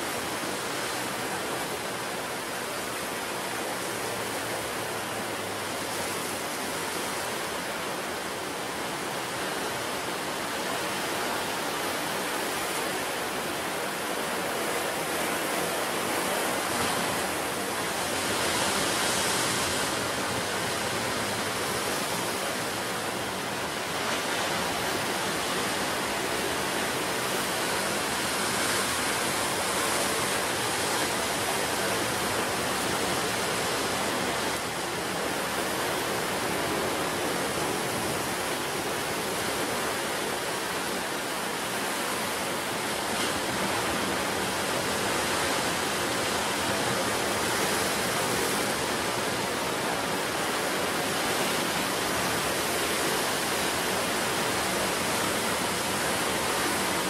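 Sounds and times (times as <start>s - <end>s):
sea surf breaking: 0.0s - 57.0s.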